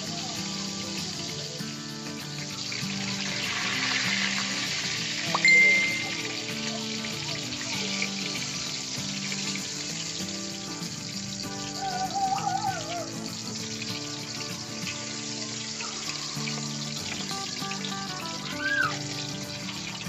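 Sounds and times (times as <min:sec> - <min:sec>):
background music: 0:00.0 - 0:20.0
fish frying in hot oil: 0:00.0 - 0:20.0.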